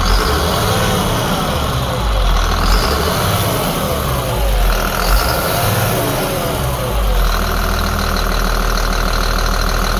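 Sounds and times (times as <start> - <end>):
high engine whine: 0.0 - 9.8
diesel engine running: 0.0 - 9.9.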